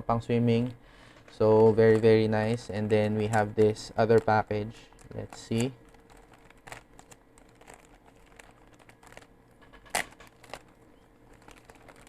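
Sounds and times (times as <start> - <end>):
plastic packaging crinkling: 1.4 - 12.0.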